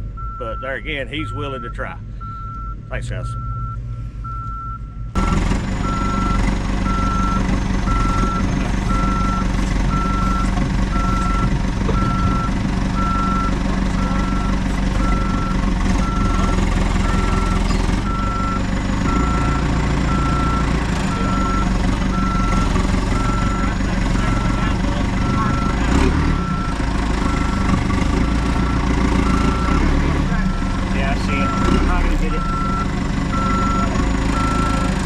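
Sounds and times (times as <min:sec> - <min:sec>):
backup alarm beeping: 0:00.0 - 0:27.7, 0:30.4 - 0:35.0
diesel engine running: 0:00.0 - 0:35.0.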